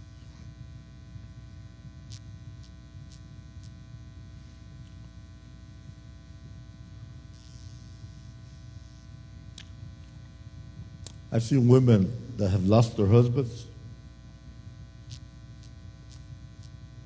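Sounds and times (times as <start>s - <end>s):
electrical hum and buzz: 0.0s - 17.0s.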